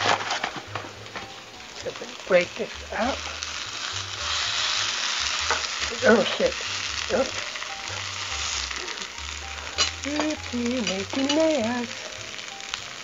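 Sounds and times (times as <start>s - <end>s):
meat and onions sizzling in pan: 0.0s - 13.0s.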